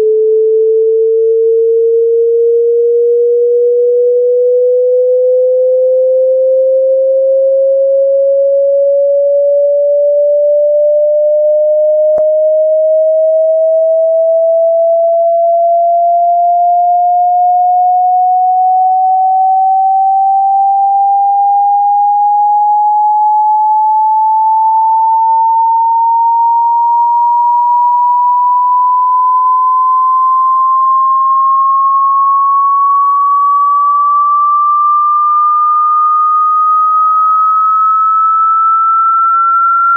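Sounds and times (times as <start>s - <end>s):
rising sine tone sweep: 0.0s - 39.9s.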